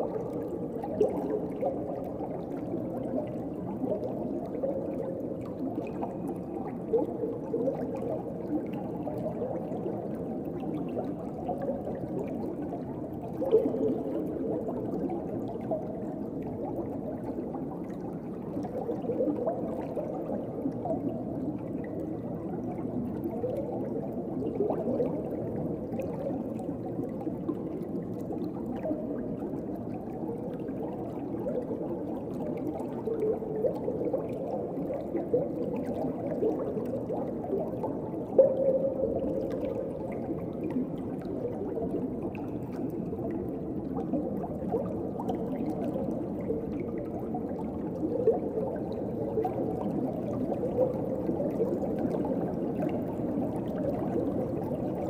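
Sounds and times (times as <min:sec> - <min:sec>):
bubbling and gurgling: 0:00.0 - 0:55.0
muffled underwater water wash: 0:00.0 - 0:55.0.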